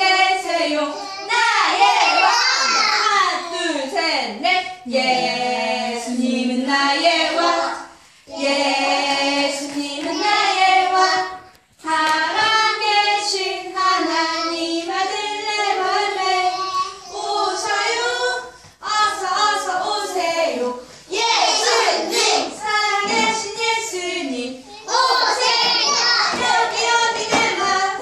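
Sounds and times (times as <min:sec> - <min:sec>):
children and woman singing: 0:00.0 - 0:28.0.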